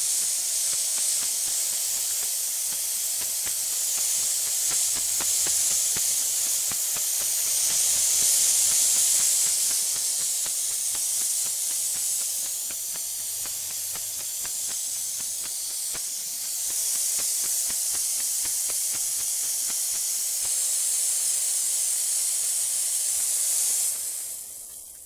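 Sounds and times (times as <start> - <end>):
faint crackling ticks: 0.0 - 20.6
garden hose spraying water: 0.0 - 25.0.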